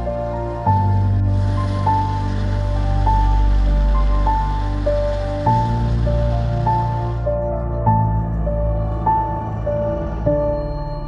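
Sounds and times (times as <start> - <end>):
low drone: 0.0 - 11.0
slow melody of held notes: 0.0 - 11.0.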